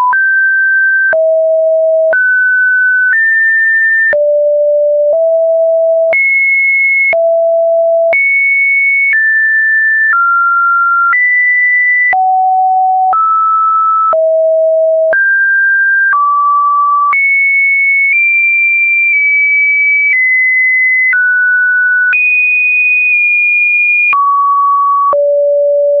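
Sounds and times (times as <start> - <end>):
sine-wave beeps: 0.0 - 26.0.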